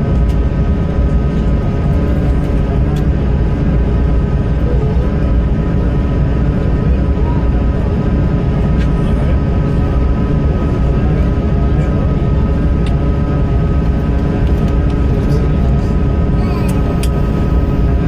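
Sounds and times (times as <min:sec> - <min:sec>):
jet engine rumble and airflow: 0:00.0 - 0:18.0
steady whine: 0:00.0 - 0:18.0.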